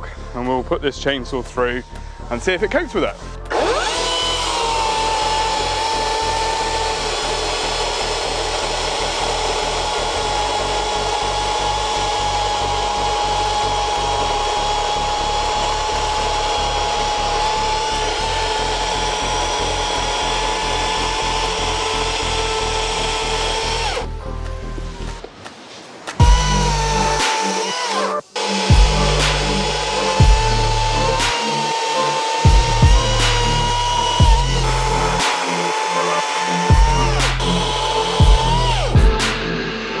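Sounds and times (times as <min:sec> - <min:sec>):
background music with bass beat: 0:00.0 - 0:25.3, 0:26.1 - 0:40.0
chainsaw cutting through log: 0:03.5 - 0:24.2, 0:26.2 - 0:39.5.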